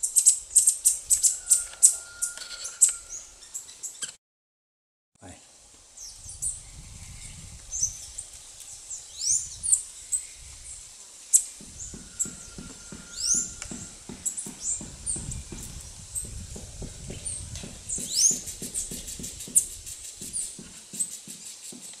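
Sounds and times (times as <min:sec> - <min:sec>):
high chirping calls: 0:00.0 - 0:04.2, 0:06.0 - 0:21.8.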